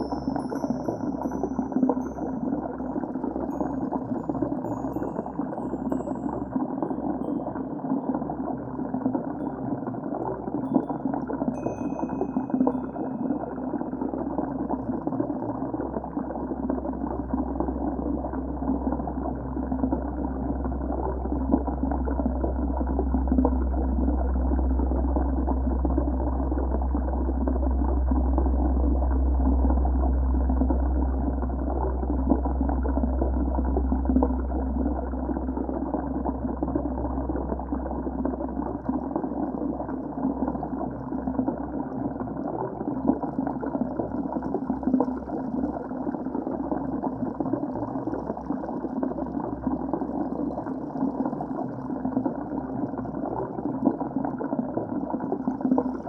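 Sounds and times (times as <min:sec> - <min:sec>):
underwater rushing and gurgling water: 0:00.0 - 0:56.0.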